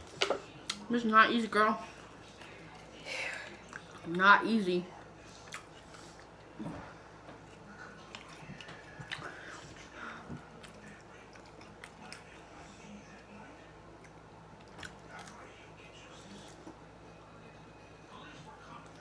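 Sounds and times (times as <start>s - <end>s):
people chewing food: 1.8s - 19.0s.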